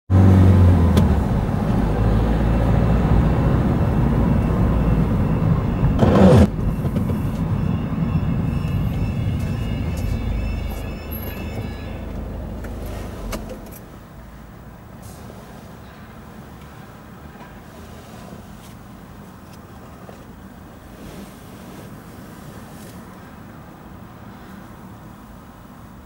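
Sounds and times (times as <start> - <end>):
car engine and road rumble: 0.1 - 26.0.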